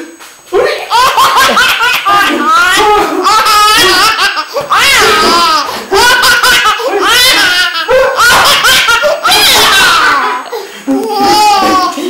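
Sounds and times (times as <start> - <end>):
toddler laughing: 0.6 - 12.0.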